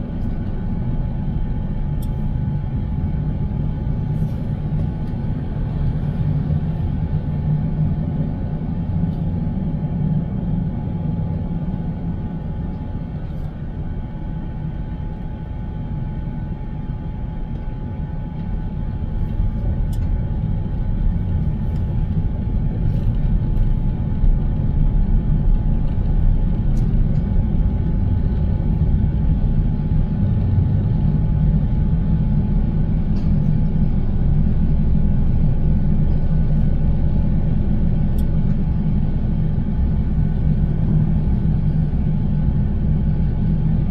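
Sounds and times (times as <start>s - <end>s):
car road and engine rumble: 0.0s - 43.9s
faint steady hum: 0.0s - 43.9s.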